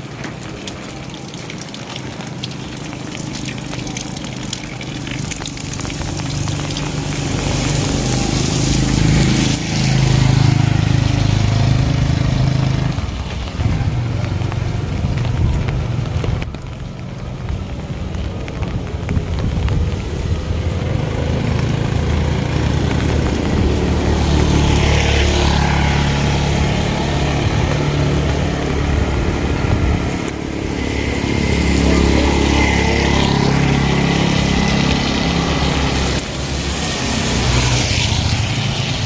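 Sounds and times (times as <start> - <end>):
rain falling: 0.0 - 39.0
vehicle engine passing: 1.8 - 16.4, 20.0 - 39.0.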